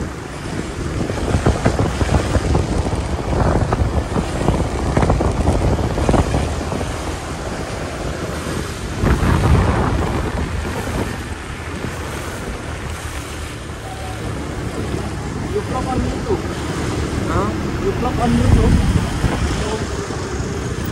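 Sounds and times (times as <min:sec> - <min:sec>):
road traffic: 0:00.0 - 0:20.9
wind rushing over microphone: 0:00.0 - 0:20.9.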